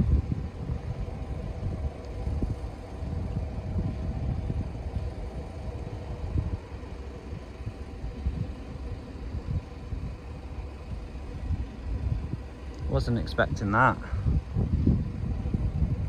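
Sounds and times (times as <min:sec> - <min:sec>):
faint steady hum: 0:00.0 - 0:16.0
low engine rumble: 0:00.0 - 0:16.0.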